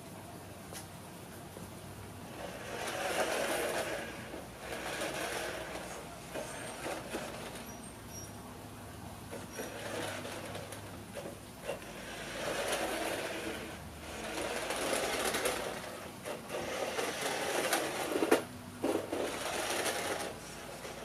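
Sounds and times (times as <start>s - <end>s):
toy truck motor whirring: 2.3s - 8.4s, 9.3s - 21.0s.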